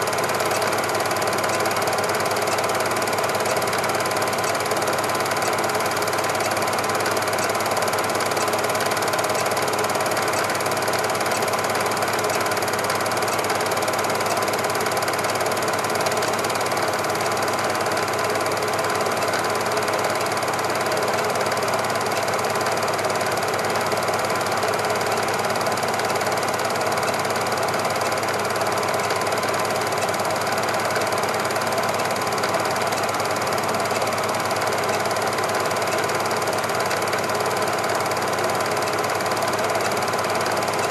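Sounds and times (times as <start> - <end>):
film projector clattering: 0.0 - 40.9.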